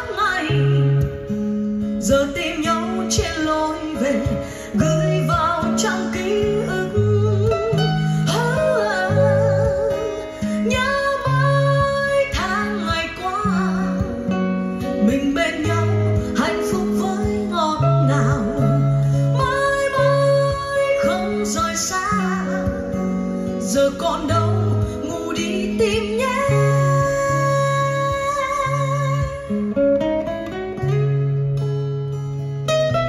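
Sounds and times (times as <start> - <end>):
pop ballad over loudspeakers: 0.0 - 33.0.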